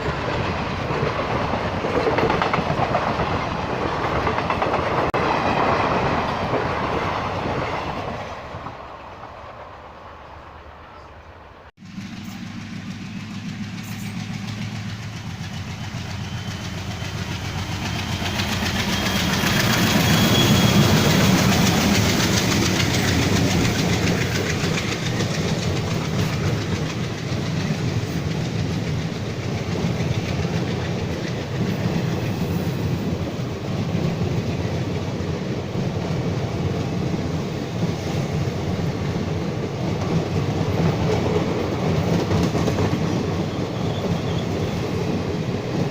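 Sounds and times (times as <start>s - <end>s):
train wheels clattering over rail joints: 0.1s - 8.8s, 11.9s - 45.9s.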